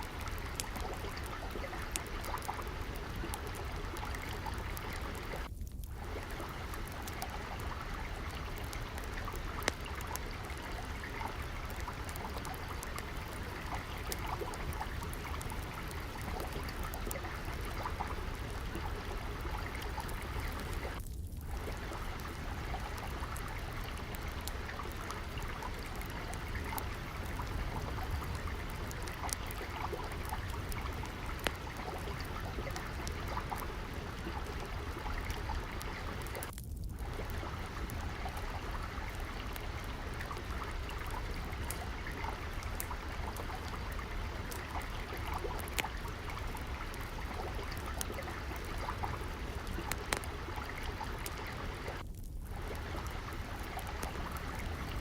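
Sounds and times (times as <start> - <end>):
water trickling: 0.0 - 55.0
wood fire crackling: 0.0 - 55.0.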